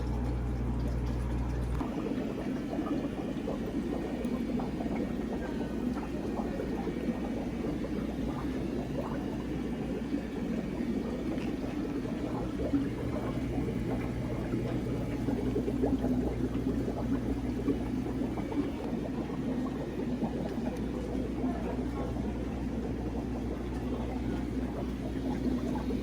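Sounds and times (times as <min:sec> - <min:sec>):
aquarium water bubbling: 0:00.0 - 0:26.0
low electrical pump hum: 0:00.0 - 0:26.0.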